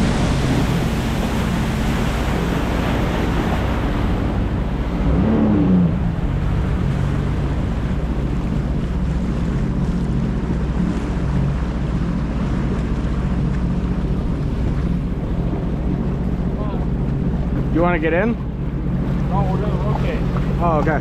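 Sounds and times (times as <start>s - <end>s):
jet ski engine running: 0.0s - 21.0s
water rushing against hull: 0.0s - 21.0s
wind buffeting microphone: 0.0s - 21.0s.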